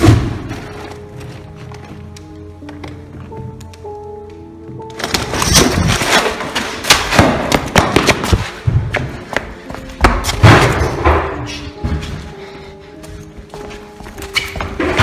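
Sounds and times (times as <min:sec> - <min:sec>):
hurried footsteps: 0:00.0 - 0:15.0.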